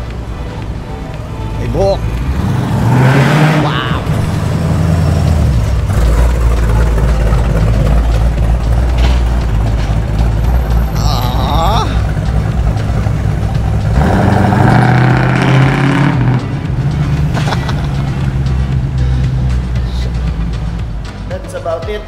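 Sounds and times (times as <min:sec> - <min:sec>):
car engine deep rumble: 0:00.0 - 0:22.0.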